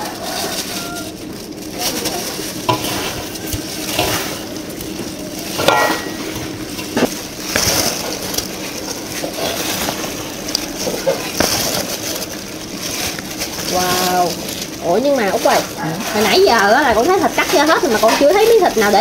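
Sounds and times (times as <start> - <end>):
plastic gloves crinkling: 0.0 - 19.0
wet squishing of meat: 0.0 - 19.0.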